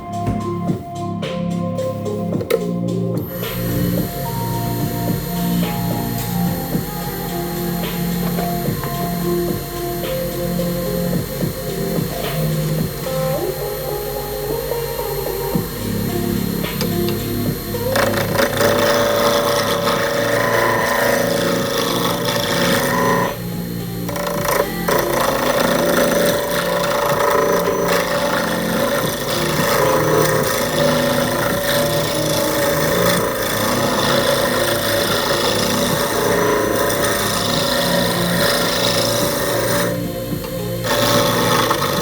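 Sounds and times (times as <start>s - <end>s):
power tool working wood: 0.0s - 42.0s.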